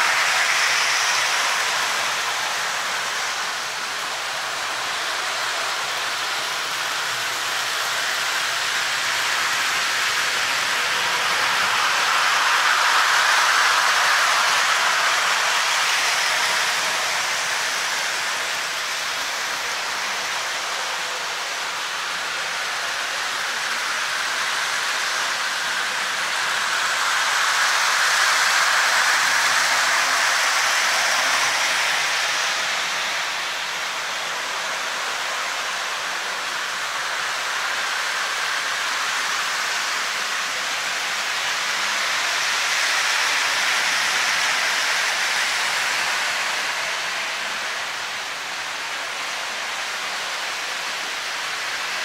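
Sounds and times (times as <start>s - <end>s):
model trains whirring: 0.0s - 52.0s.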